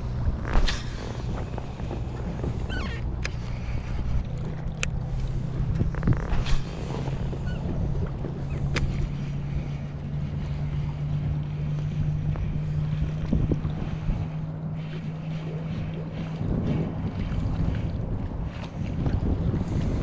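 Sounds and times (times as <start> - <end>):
boat motor hum: 0.0 - 20.0
water noise: 0.0 - 20.0
wind on microphone: 0.0 - 20.0.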